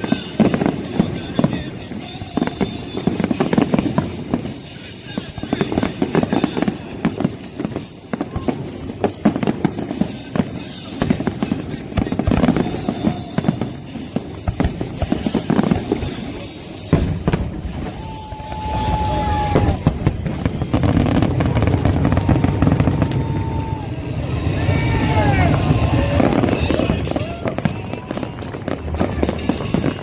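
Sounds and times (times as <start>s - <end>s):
music with drums: 0.0s - 21.3s, 26.2s - 30.0s.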